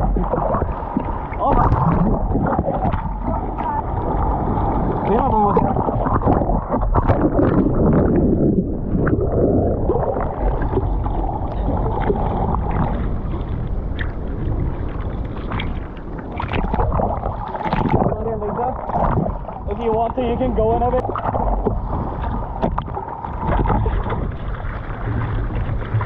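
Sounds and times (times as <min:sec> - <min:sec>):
sea water splashing in surf: 0:00.0 - 0:26.0
wind buffeting microphone: 0:00.0 - 0:26.0.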